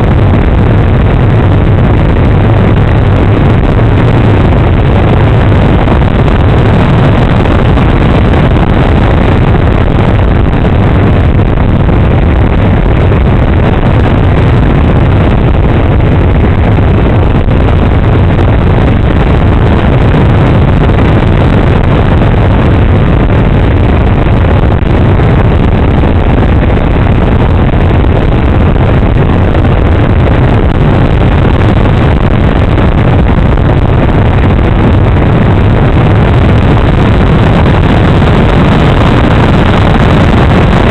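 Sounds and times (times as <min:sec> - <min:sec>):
rushing air noise: 0:00.0 - 0:40.9.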